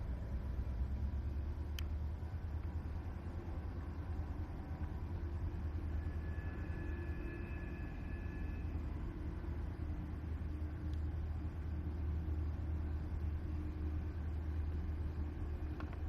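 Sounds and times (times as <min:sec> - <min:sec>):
diesel locomotive engine rumbling: 0:00.0 - 0:16.0
faint high whine: 0:00.0 - 0:16.0.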